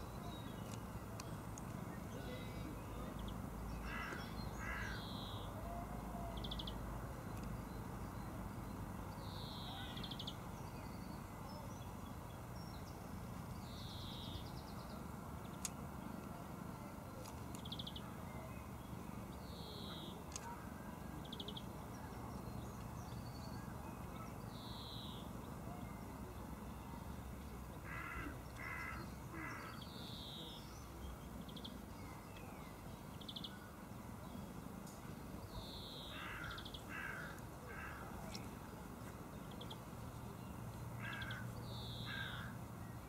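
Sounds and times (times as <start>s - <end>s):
steady background noise: 0.0s - 43.0s.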